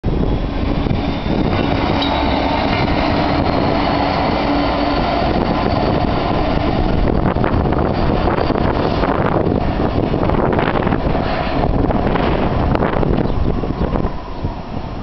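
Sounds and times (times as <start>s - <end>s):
locomotive engine and wheel rumble: 0.0s - 15.0s.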